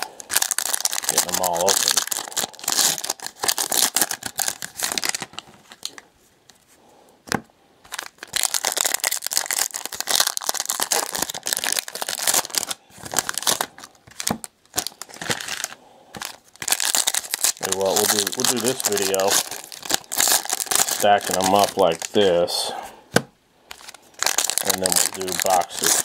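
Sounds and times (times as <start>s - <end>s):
card pack wrappers crackling: 0.0s - 6.0s, 7.9s - 22.6s, 23.7s - 26.0s.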